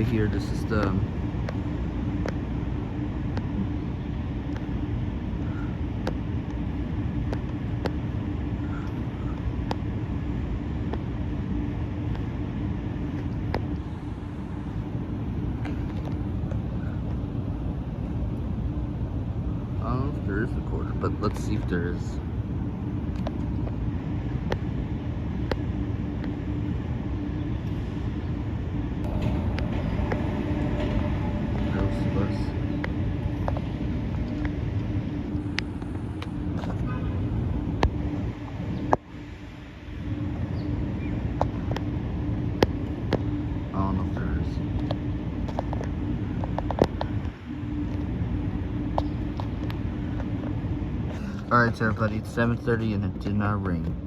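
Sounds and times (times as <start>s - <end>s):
low engine hum: 0.0s - 54.0s
traffic rumble: 0.0s - 54.0s.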